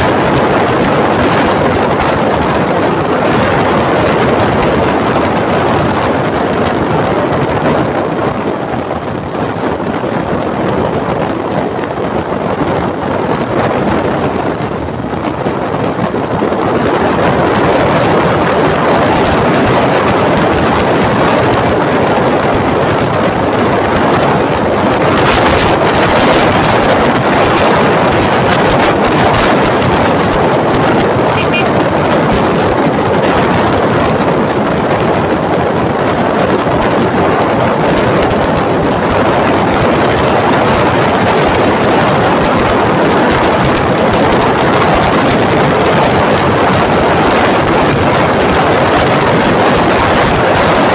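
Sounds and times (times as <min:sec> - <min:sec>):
road and engine noise: 0:00.0 - 0:50.9
wind rushing over microphone: 0:00.0 - 0:50.9.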